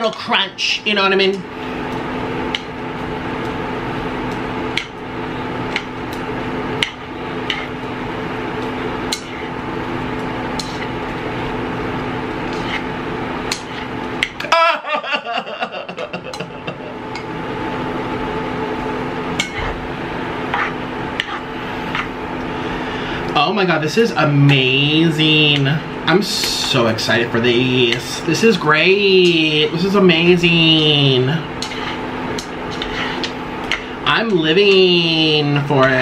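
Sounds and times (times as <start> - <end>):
electric burner hum: 0.0 - 36.0.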